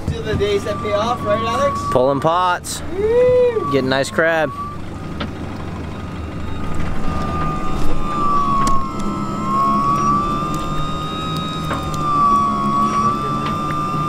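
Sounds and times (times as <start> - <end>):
low hum: 0.0 - 14.0
pot puller motor whining: 0.0 - 14.0.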